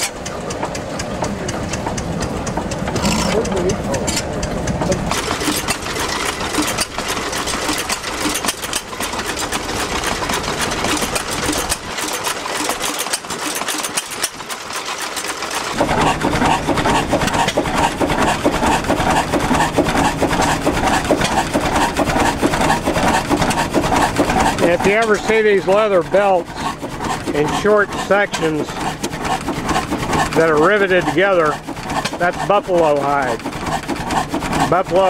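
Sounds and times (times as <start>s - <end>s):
gas engines clattering: 0.0s - 35.0s.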